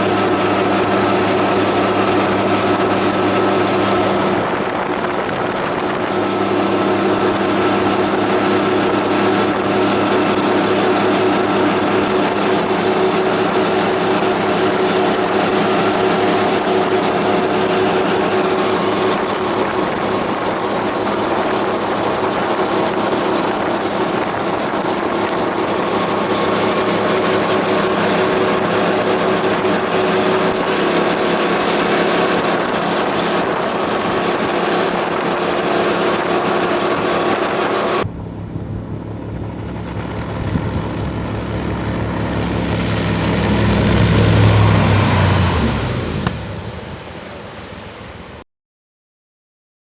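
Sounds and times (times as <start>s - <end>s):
boat motor running: 0.0s - 48.4s.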